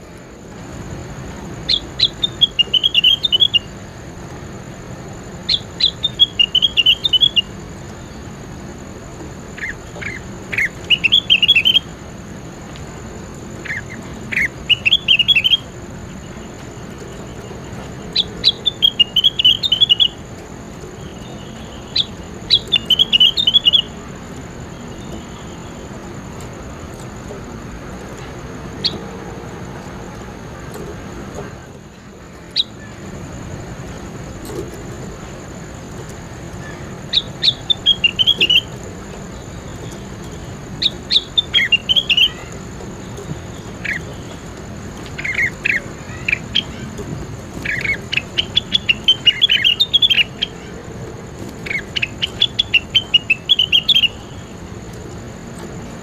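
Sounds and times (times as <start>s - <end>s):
faint high whine: 0.0s - 56.0s
steady hiss: 0.0s - 56.0s
bird singing chattering notes: 1.6s - 4.0s, 5.2s - 29.1s, 31.3s - 56.0s.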